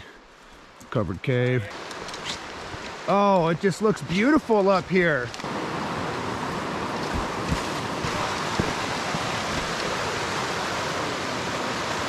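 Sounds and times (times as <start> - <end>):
river water rushing over rocks: 1.8 - 12.0.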